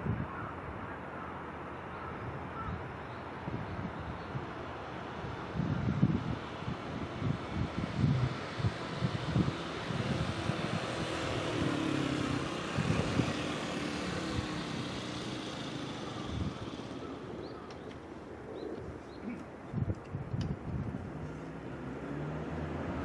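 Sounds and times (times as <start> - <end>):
wind buffeting microphone: 2.3 - 23.0.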